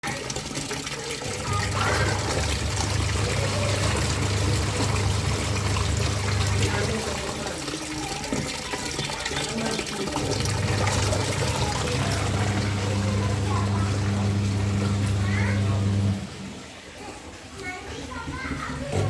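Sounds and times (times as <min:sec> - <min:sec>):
washing machine motor hum: 0:00.0 - 0:16.9
water sloshing and churning: 0:00.0 - 0:19.0.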